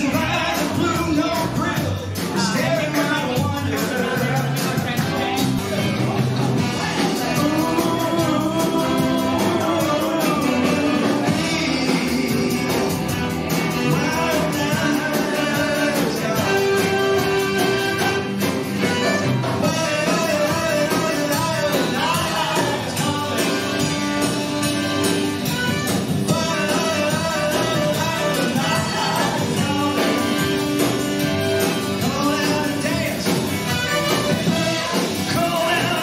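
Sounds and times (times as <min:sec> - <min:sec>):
bass guitar: 0:00.0 - 0:36.0
drum kit: 0:00.0 - 0:36.0
electric guitar: 0:00.0 - 0:36.0
lead vocal singing: 0:00.0 - 0:36.0.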